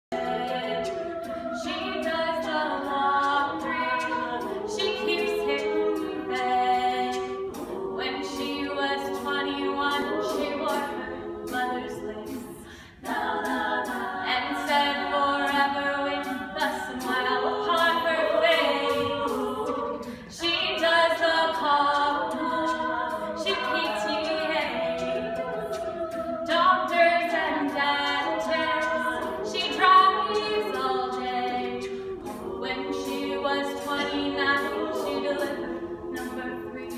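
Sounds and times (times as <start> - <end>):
group singing sustained chords: 0.1 - 36.9.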